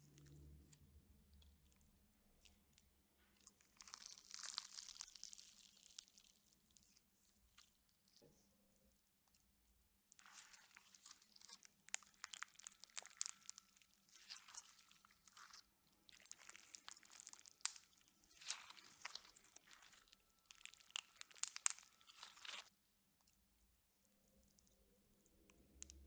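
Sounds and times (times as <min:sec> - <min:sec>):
crunchy slime crackling: 0:00.0 - 0:08.2, 0:08.8 - 0:26.0.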